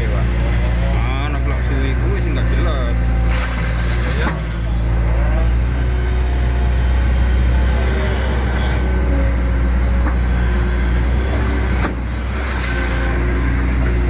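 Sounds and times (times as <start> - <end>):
excavator diesel engine humming: 0.0 - 14.0.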